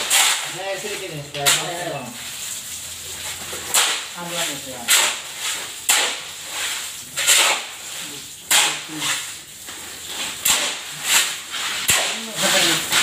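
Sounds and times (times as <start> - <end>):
shovels scraping wet cement: 0.0 - 13.0.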